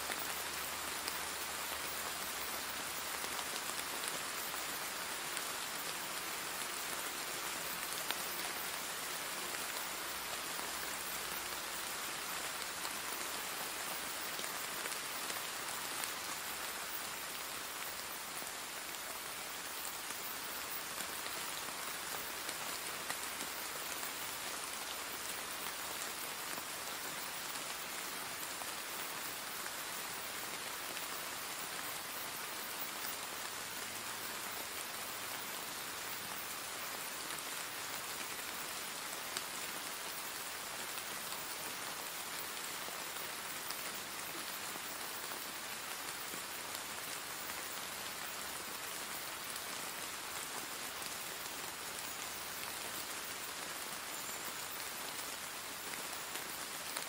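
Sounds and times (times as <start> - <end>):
louder raindrops: 0.0 - 57.0
steady rain hiss: 0.0 - 57.0.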